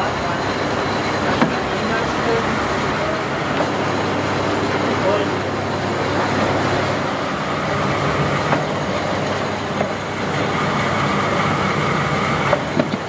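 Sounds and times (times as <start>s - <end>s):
machinery humming with high whine: 0.0s - 13.0s.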